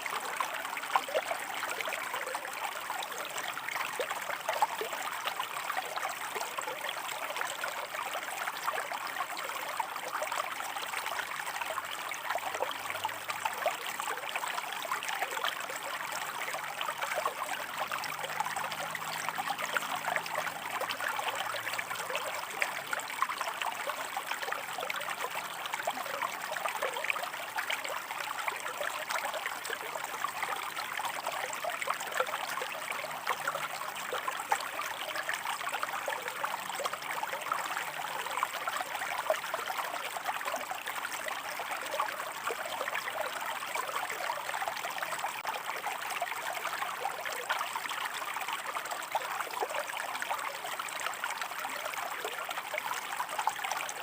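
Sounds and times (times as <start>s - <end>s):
stream water babbling over rocks: 0.0s - 54.0s.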